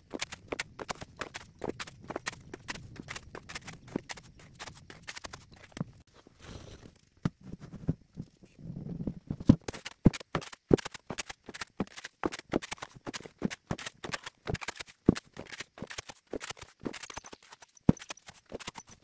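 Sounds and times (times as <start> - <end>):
shovel scraping stony dirt: 0.0 - 6.9, 9.6 - 19.0.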